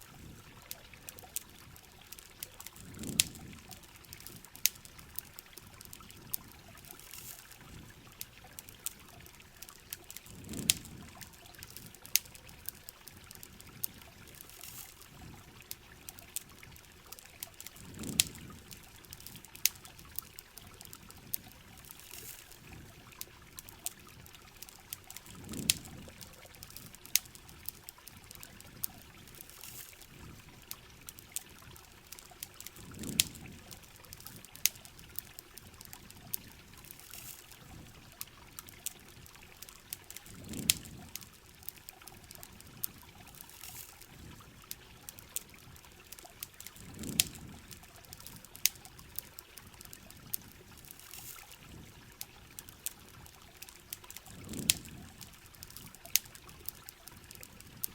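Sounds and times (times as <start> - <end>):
campfire crackling and popping: 0.0 - 57.9
steady rain: 0.0 - 57.9
trickling water: 0.0 - 57.9.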